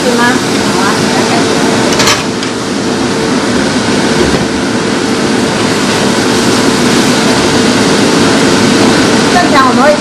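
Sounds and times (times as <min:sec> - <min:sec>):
extractor fan humming: 0:00.0 - 0:10.0.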